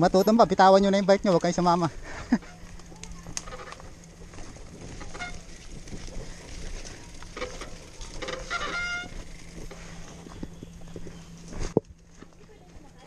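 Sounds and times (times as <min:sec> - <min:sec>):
mountain bike rattling: 0:00.0 - 0:13.0.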